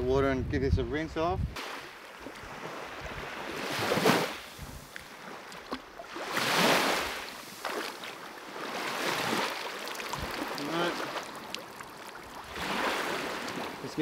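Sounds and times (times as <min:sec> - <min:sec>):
seawater sloshing and lapping: 0:01.7 - 0:14.0.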